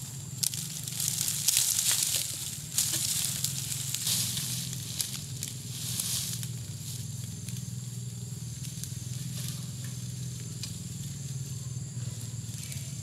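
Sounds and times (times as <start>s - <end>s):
dry palm fronds crackling: 0.0s - 13.0s
steady low hum: 0.0s - 13.0s.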